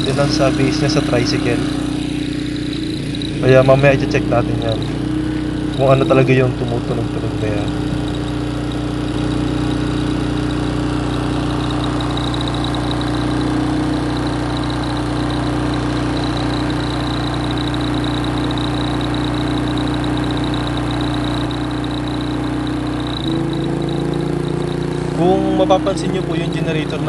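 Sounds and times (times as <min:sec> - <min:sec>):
generator running: 0:00.0 - 0:27.0
high whine: 0:00.0 - 0:27.0.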